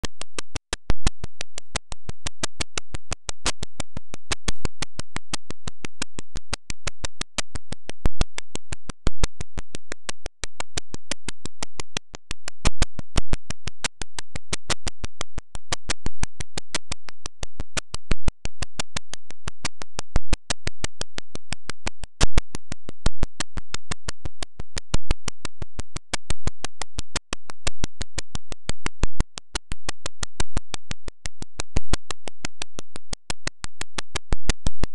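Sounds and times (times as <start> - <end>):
rapid electronic clicks: 0.0 - 34.9.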